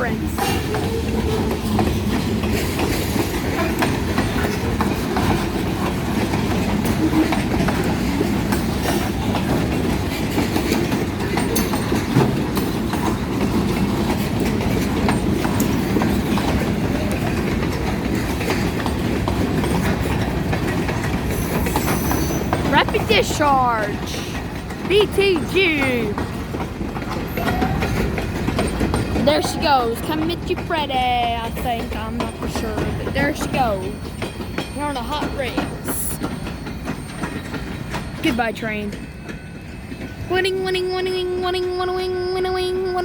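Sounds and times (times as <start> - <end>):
freight train rumbling: 0.0 - 43.0
wheels clicking over rail joints: 0.0 - 43.0.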